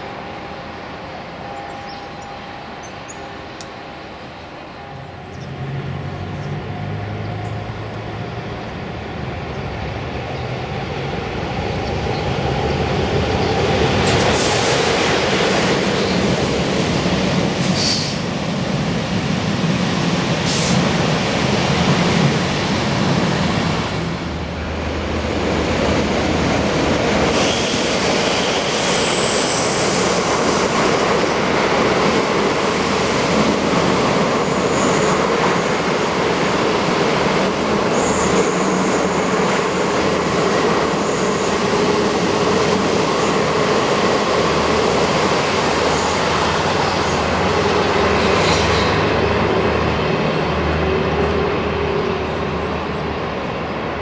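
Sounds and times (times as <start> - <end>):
train rolling past on rails: 0.0 - 54.0.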